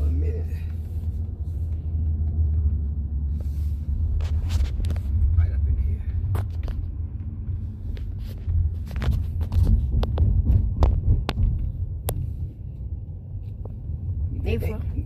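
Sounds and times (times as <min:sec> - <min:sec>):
low throbbing rumble: 0:00.0 - 0:15.0.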